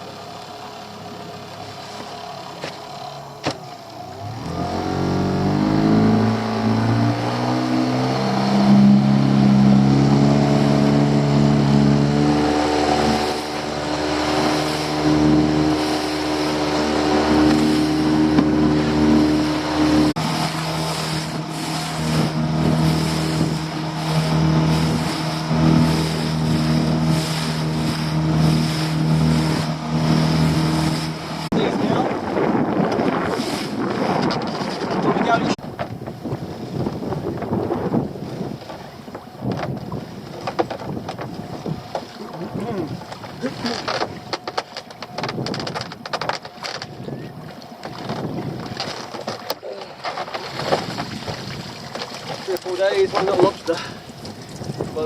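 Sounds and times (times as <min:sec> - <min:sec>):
boat engine throttling up: 0:00.0 - 0:55.0
water noise: 0:00.0 - 0:55.0
wind noise: 0:05.4 - 0:49.4, 0:50.4 - 0:52.4, 0:53.1 - 0:55.0.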